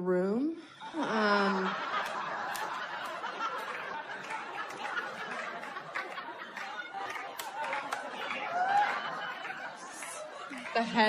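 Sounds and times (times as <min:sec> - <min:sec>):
audience laughing: 0:00.9 - 0:11.0.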